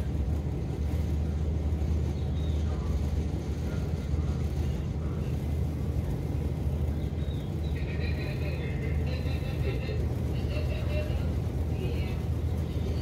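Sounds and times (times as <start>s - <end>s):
diesel engine low drone: 0.0s - 13.0s.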